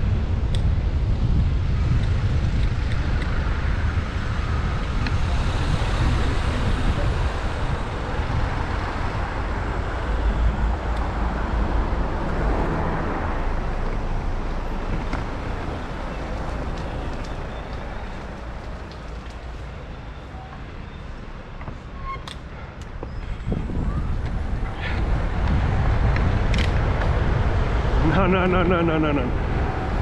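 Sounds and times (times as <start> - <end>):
wind buffeting microphone: 0.0 - 20.2, 22.9 - 30.0
cars running in traffic: 0.0 - 30.0.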